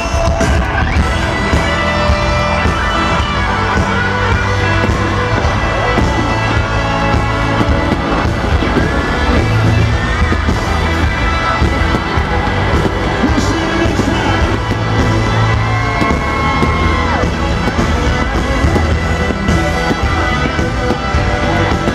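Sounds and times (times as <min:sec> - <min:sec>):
crowd cheering: 0:00.0 - 0:21.9
live country-rock band: 0:00.0 - 0:21.9.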